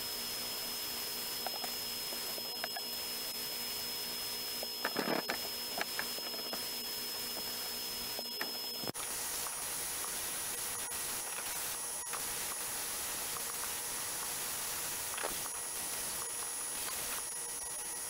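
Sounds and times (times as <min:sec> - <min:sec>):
sandblasting cabinet hissing: 0:00.0 - 0:18.0.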